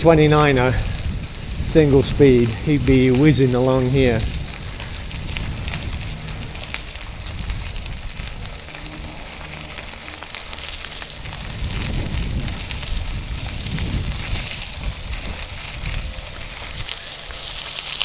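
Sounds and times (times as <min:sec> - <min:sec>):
wind buffeting microphone: 0:00.0 - 0:17.6
bike tyres rolling on gravel: 0:00.0 - 0:18.0.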